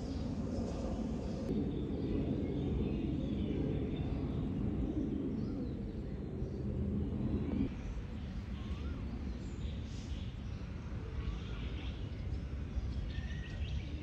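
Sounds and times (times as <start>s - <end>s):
faint birds chirping: 0.0s - 14.0s
low background rumble: 0.0s - 14.0s.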